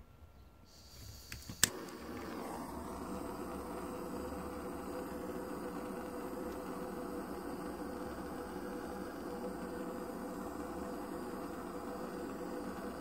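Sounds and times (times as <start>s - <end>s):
blowtorch flame hissing: 0.7s - 13.0s
blowtorch igniter click: 0.9s - 13.0s.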